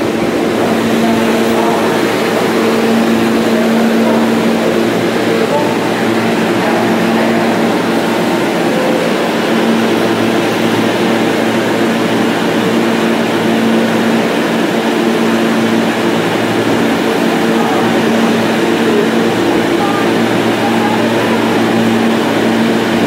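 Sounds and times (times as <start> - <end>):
loud electrical hum: 0.0 - 23.0
rumble of train cars: 0.0 - 23.0
subway train slowing to stop: 0.0 - 23.0.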